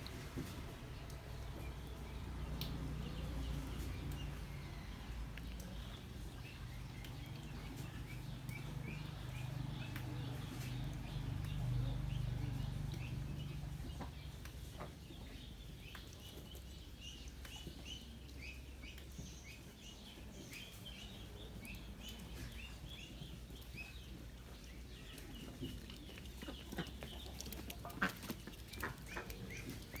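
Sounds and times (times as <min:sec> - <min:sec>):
poultry peeping: 0:00.0 - 0:30.0.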